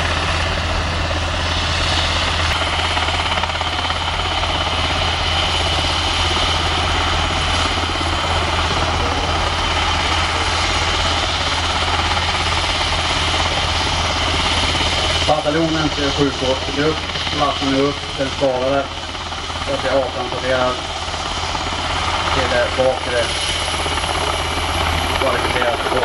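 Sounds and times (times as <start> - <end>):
helicopter turbine whine: 0.0 - 26.0
low rotor rumble: 0.0 - 26.0.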